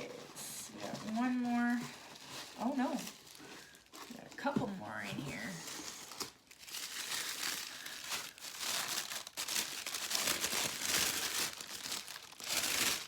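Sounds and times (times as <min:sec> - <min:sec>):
tissue paper crinkling: 0:00.0 - 0:13.0.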